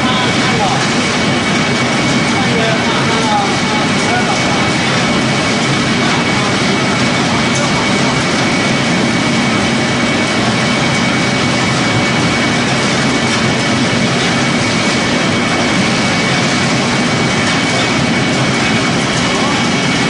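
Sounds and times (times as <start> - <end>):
pellet machine running: 0.0 - 20.0.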